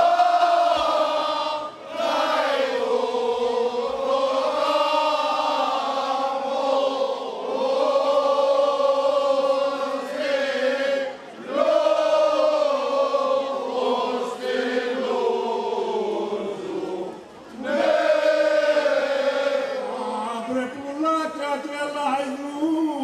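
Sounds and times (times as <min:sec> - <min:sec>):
men's choir singing unaccompanied: 0:00.0 - 0:22.4.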